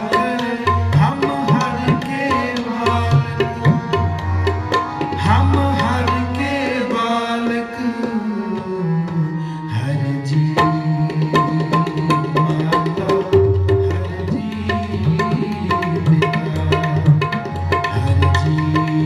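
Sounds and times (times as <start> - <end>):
tabla playing: 0.0 - 9.4, 10.2 - 19.0.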